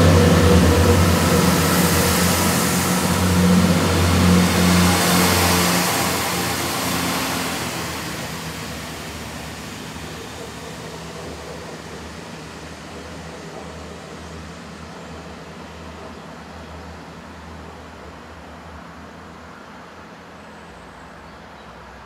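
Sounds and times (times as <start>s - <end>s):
train engines droning: 0.0s - 22.0s.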